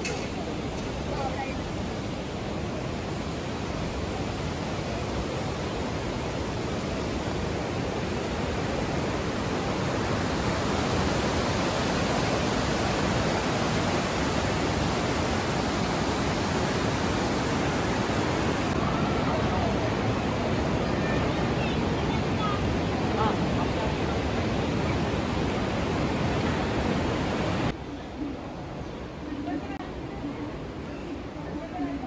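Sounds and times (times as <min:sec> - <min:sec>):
river rushing over boulders: 0:00.0 - 0:31.6.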